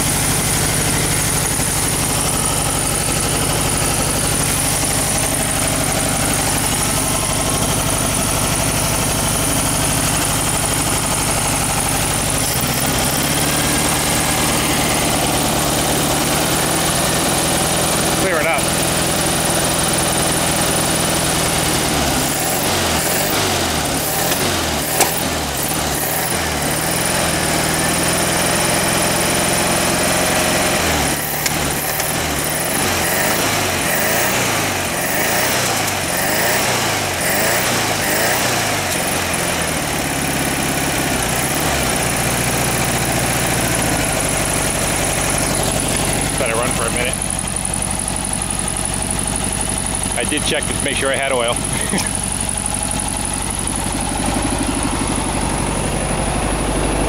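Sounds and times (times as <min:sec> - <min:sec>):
engine running rough and revving: 0:00.0 - 0:57.0.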